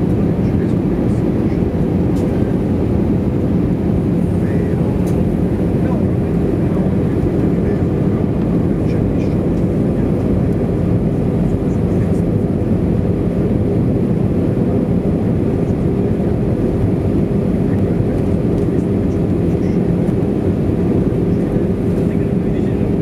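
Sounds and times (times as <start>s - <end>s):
jet engines rumbling: 0.0s - 23.0s
low steady drone: 0.0s - 23.0s.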